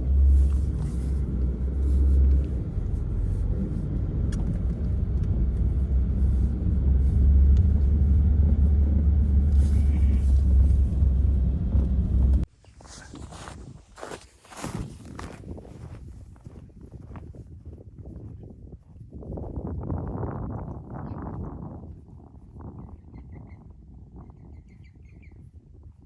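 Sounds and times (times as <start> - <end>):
wind buffeting microphone: 0.0 - 12.5, 13.2 - 26.0.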